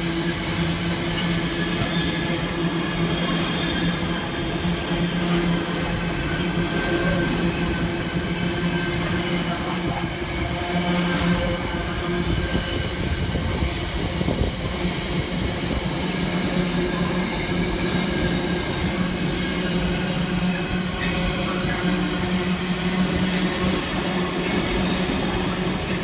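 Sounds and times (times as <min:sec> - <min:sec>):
train wagons rumbling on rails: 0:00.0 - 0:26.0.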